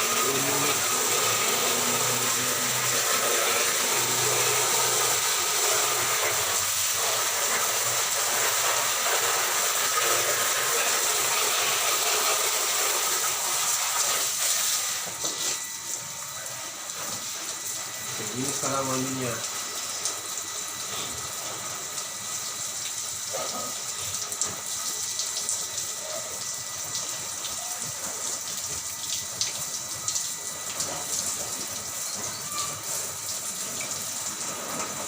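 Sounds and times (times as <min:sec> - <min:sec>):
water spraying: 0:00.0 - 0:35.0.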